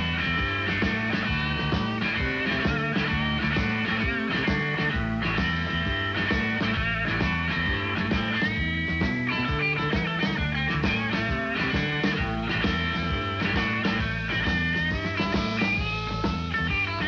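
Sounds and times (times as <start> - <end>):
bass: 0.0 - 17.0
drums: 0.0 - 17.0
electric guitar lead: 0.0 - 17.0.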